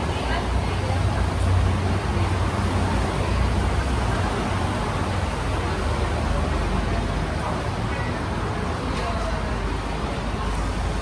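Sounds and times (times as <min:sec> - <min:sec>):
deep vehicle rumble: 0:00.0 - 0:11.0.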